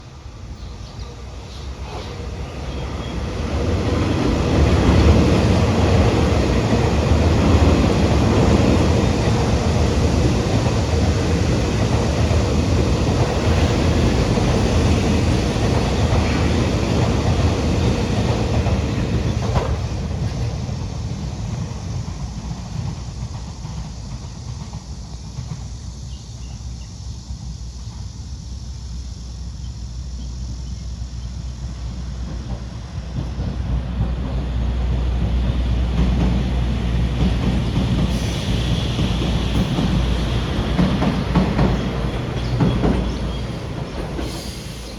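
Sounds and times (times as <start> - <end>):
electric trains passing: 0.0 - 44.9.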